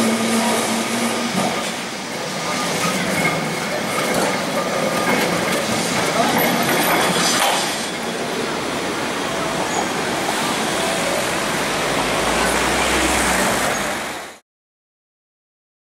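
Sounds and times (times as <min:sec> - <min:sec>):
city street traffic: 0:00.0 - 0:14.4.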